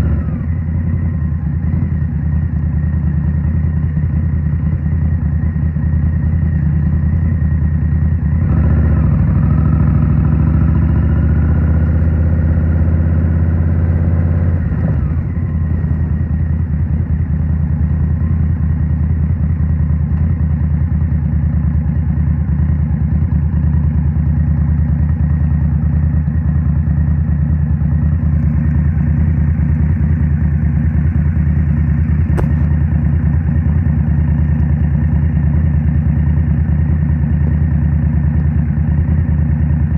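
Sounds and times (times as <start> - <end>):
motorcycle engine accelerating: 0.0 - 20.6, 22.8 - 39.9.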